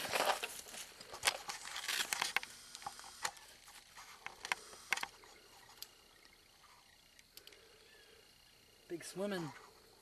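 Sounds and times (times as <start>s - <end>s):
rustle: 0.0s - 8.0s.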